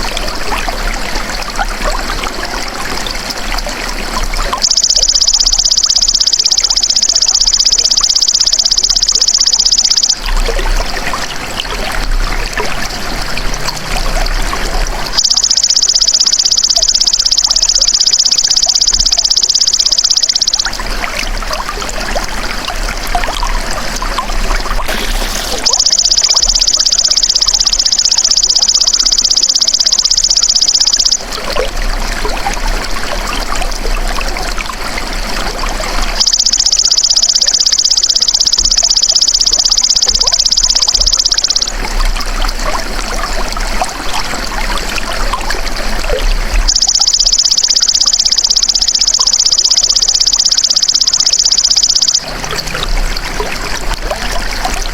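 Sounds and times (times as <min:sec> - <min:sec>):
water trickling: 0:00.0 - 0:54.9.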